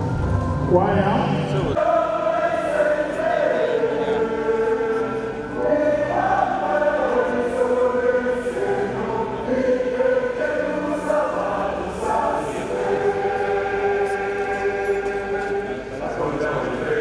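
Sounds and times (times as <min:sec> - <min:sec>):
choir singing: 0:01.6 - 0:17.0.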